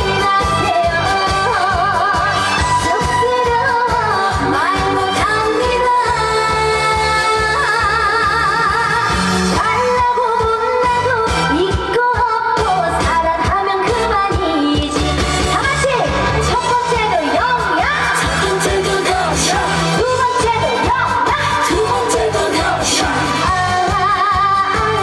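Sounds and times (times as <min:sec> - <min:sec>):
backing track with steady beat: 0:00.0 - 0:25.0
woman singing with vibrato: 0:00.0 - 0:25.0.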